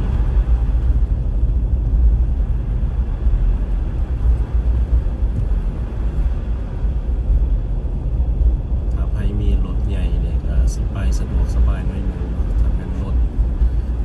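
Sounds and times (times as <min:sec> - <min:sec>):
car tyres and engine rumbling: 0:00.0 - 0:14.0.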